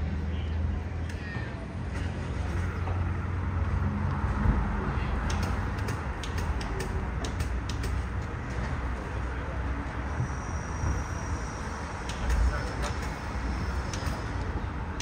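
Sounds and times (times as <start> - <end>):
boat engines rumbling: 0.0 - 15.0.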